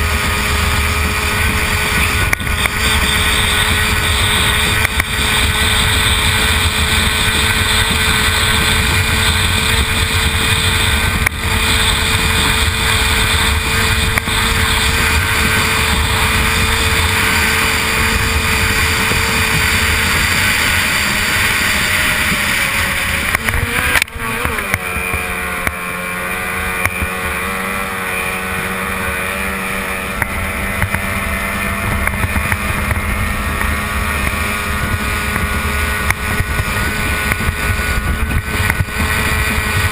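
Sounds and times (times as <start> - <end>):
racing boat engine running: 0.0 - 39.9.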